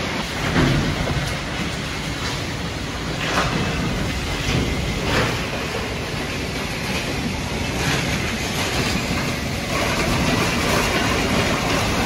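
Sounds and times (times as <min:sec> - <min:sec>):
conveyors rattling: 0:00.0 - 0:12.0.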